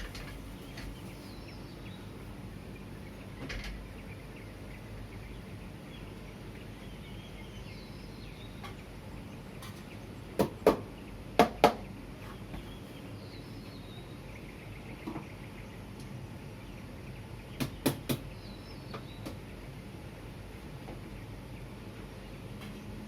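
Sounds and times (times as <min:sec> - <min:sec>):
distant traffic hum: 0:00.0 - 0:23.0.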